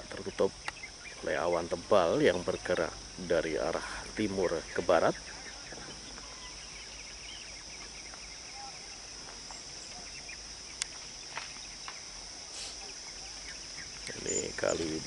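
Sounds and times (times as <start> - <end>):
insects droning: 0.0 - 15.0
faint bird chirps: 0.2 - 2.8, 3.5 - 15.0.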